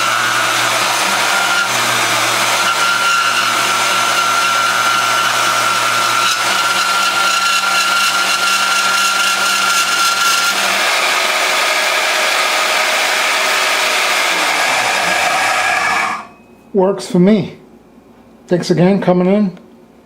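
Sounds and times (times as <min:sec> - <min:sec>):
band saw running: 0:00.0 - 0:16.4.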